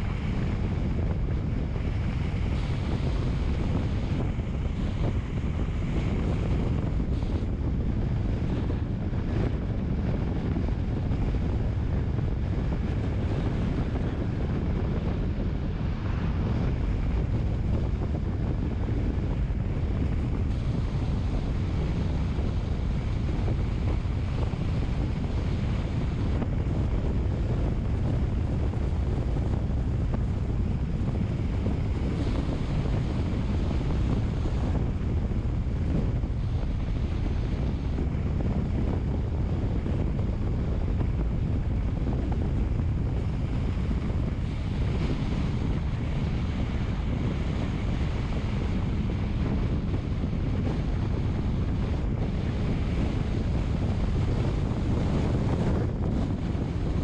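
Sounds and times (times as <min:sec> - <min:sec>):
wind noise rumble: 0:00.0 - 0:57.0.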